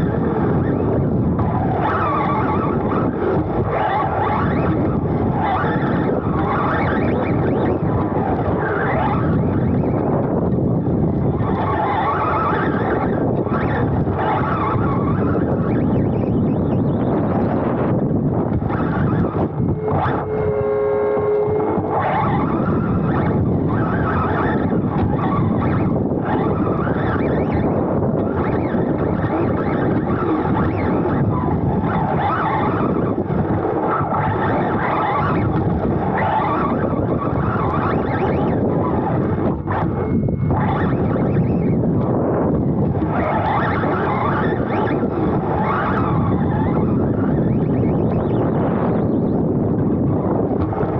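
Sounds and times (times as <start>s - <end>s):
electric motor whine: 0.0s - 50.9s
rc buggy drivetrain whirring: 0.0s - 50.9s
wind buffeting microphone: 0.0s - 50.9s.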